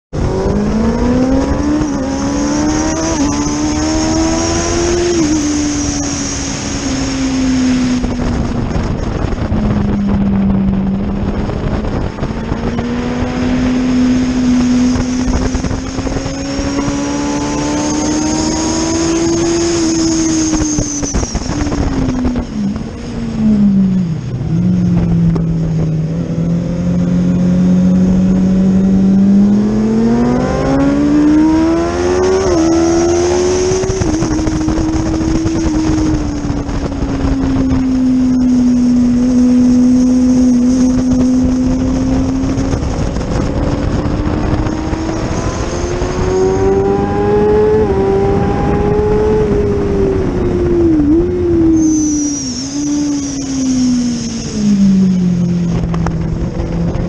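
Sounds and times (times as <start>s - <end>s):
racing motorcycle engine: 0.1s - 57.0s
wind rushing over microphone: 0.1s - 57.0s.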